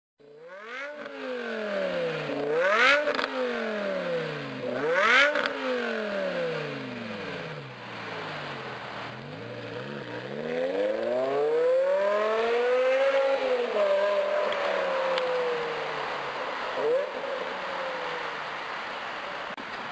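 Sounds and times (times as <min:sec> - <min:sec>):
car engine revving: 0:00.5 - 0:18.4.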